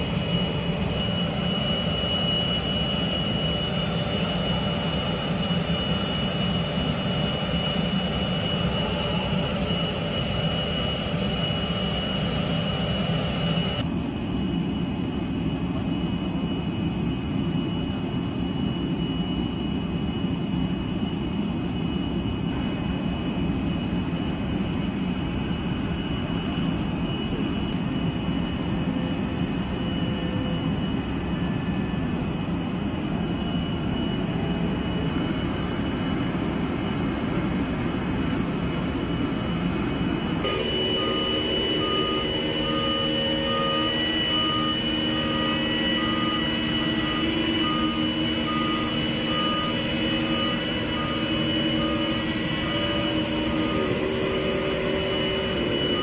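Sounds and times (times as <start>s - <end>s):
high-pitched turbine whine: 0.0s - 56.0s
jet turbine rumble: 0.0s - 56.0s.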